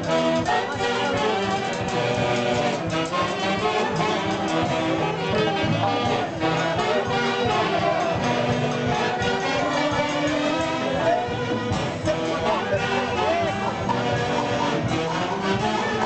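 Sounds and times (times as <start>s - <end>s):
live orchestra with brass: 0.0s - 16.0s.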